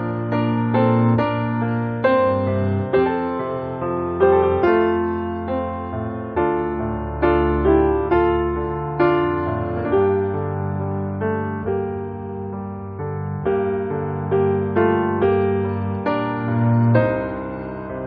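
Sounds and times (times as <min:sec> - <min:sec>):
piano-like keyboard chords: 0:00.0 - 0:18.0.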